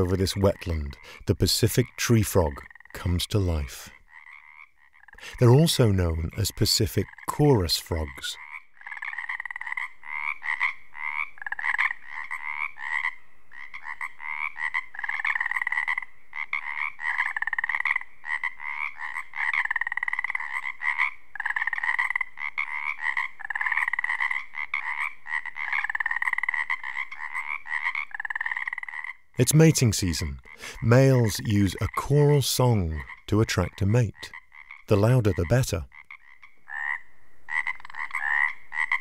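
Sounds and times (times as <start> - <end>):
chorus of frogs croaking: 0.0 - 39.0.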